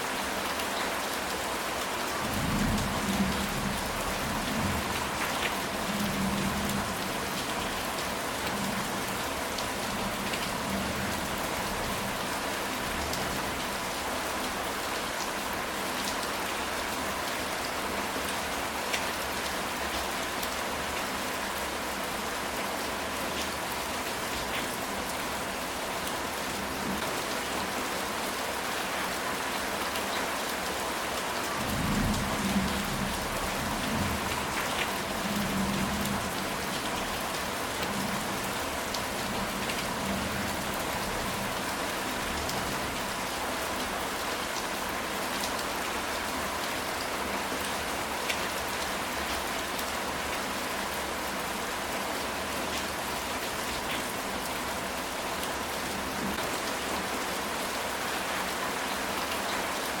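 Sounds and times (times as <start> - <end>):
rain on a tile roof: 0.0 - 60.0.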